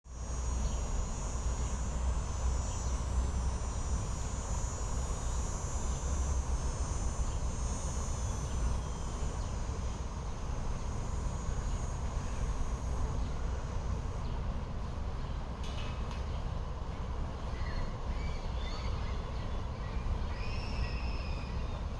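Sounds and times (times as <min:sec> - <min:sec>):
crickets droning: 0:00.1 - 0:21.9.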